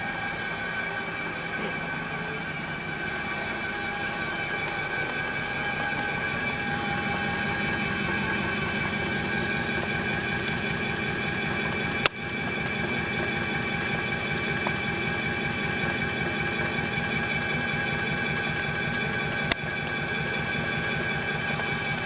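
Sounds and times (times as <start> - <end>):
milling spindle whine: 0.0 - 22.0
rhythmic cutting chatter: 1.0 - 22.0.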